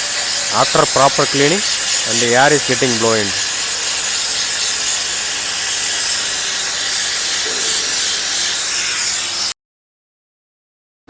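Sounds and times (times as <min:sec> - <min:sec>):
compressed air gun hissing: 0:00.0 - 0:09.6.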